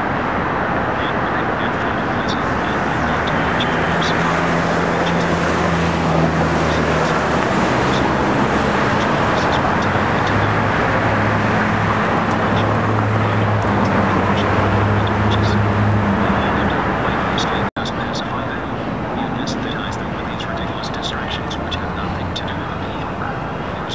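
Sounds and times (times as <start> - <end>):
cars passing on road: 0.0 - 23.9.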